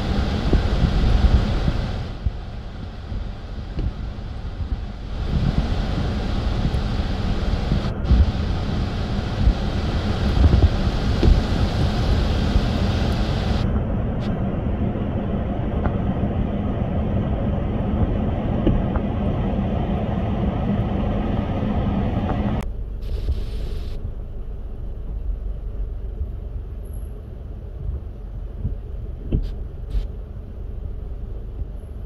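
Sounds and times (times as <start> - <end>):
low outdoor rumble and hiss: 0.0 - 32.0.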